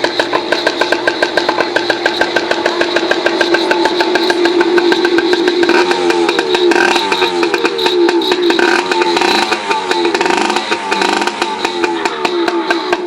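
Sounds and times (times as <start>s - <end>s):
two-stroke engine idling: 0.0s - 13.0s.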